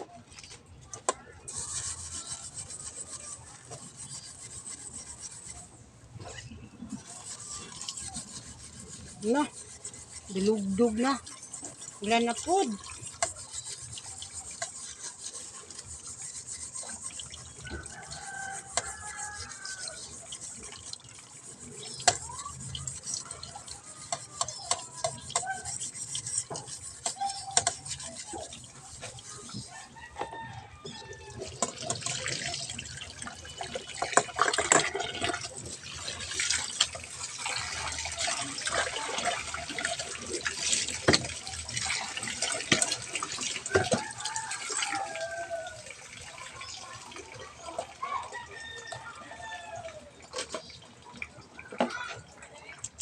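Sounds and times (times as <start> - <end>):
scrubbing dishes: 0.0 - 53.0
water running: 6.3 - 53.0.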